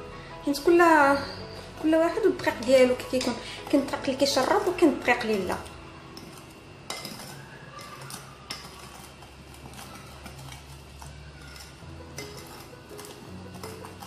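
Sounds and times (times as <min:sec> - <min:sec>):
whisk scraping glass bowl: 0:00.6 - 0:14.0
whisk stirring batter: 0:00.6 - 0:14.0.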